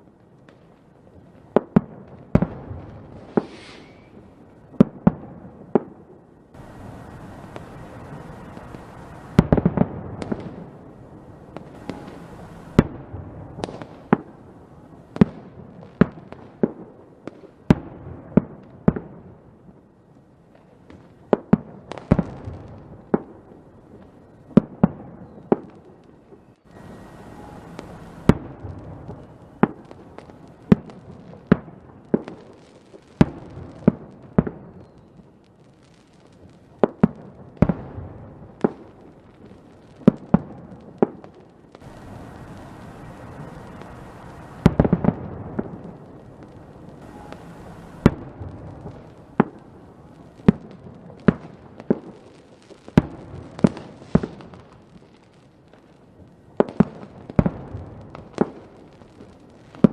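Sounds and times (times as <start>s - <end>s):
crackling hiss: 0.0s - 17.7s, 18.5s - 59.9s
fireworks bangs: 0.0s - 19.4s, 20.8s - 59.9s.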